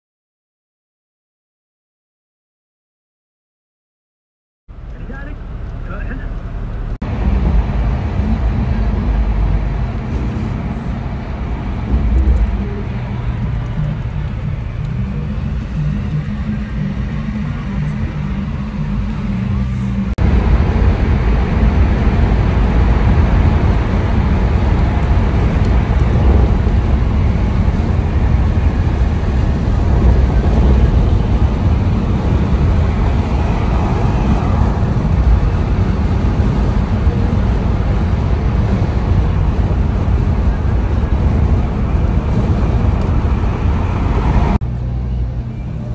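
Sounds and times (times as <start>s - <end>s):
road and wind noise in car: 4.7s - 45.9s.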